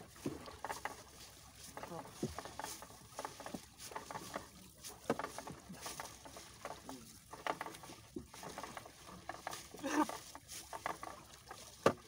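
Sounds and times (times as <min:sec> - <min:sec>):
net and floats knocking hull: 0:00.0 - 0:12.0
water splashing and dripping: 0:00.0 - 0:12.0.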